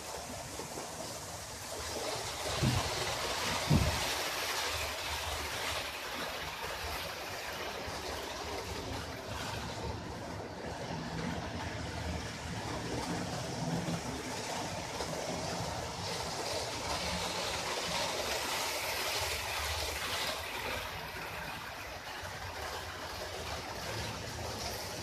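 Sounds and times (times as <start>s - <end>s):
model train rumbling on track: 0.0s - 25.0s.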